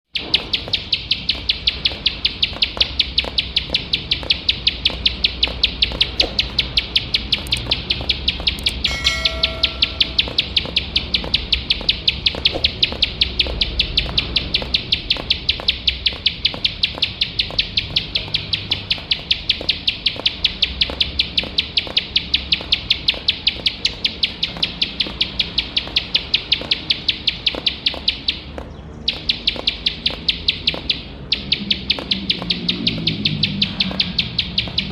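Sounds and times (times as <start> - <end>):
bird ticking song: 0.1 - 34.9.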